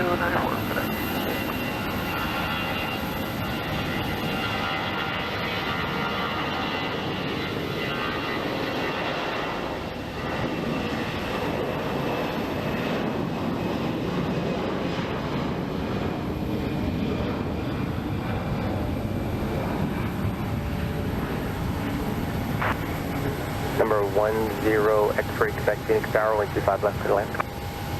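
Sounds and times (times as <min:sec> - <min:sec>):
jet engines roaring: 0:00.0 - 0:27.9.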